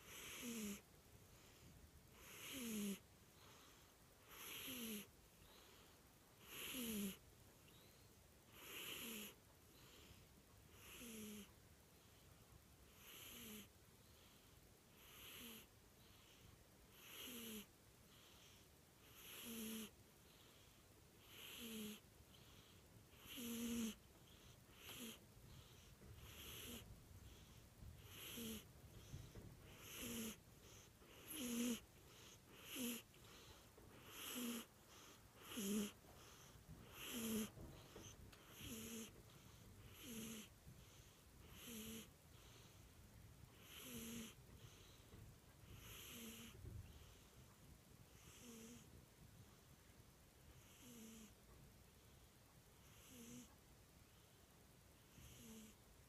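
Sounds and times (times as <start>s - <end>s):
cat snoring: 0.0s - 12.2s, 12.9s - 42.8s, 43.5s - 47.4s, 48.1s - 49.0s, 50.5s - 51.4s, 52.8s - 53.6s, 55.0s - 55.8s.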